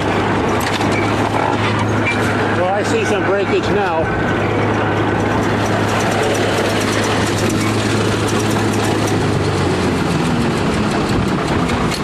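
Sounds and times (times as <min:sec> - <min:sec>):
bulldozer diesel engine humming: 0:00.0 - 0:12.0.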